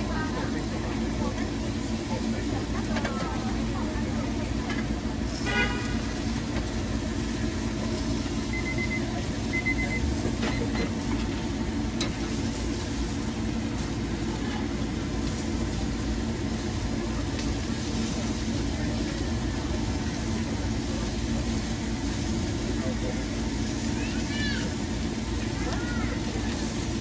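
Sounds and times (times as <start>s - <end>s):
traffic rumble: 0.0s - 27.0s.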